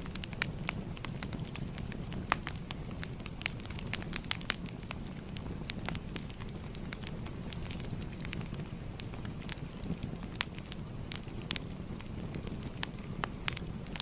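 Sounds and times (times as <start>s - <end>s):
fire crackling and popping: 0.0s - 14.0s
low rumble of burning: 0.0s - 14.0s.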